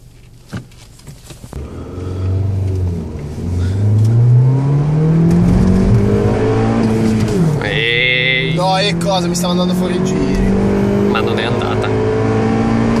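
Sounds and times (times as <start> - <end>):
car engine revving up: 1.5 - 13.0.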